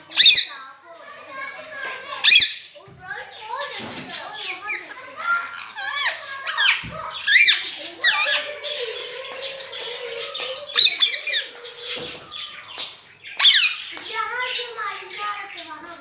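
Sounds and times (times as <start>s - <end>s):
parrot squawking: 0.0s - 0.7s, 1.6s - 2.8s, 3.4s - 15.0s.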